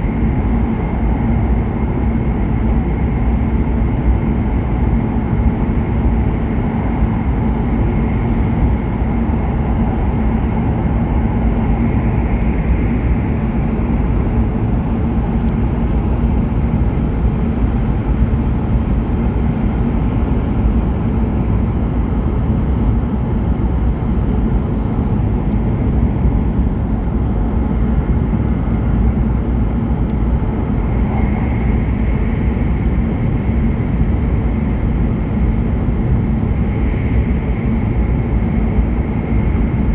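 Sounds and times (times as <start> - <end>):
low hum: 0.0 - 39.9
train rumble inside passenger car: 0.0 - 39.9.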